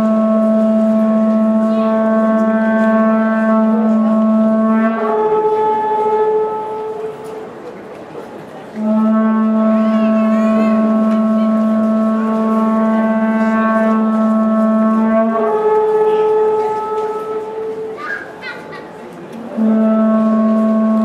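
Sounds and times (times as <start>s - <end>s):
conch shell trumpet blown: 0.0s - 7.7s, 8.7s - 18.0s, 19.5s - 21.0s.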